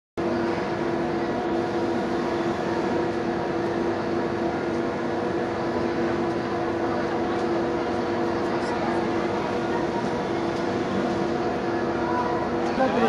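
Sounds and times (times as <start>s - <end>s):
steady low hum: 0.2s - 13.0s.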